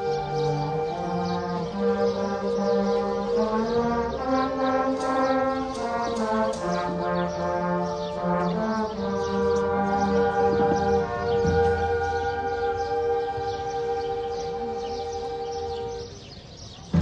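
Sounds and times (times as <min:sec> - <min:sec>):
concert band playing sustained chords: 0:00.0 - 0:16.4.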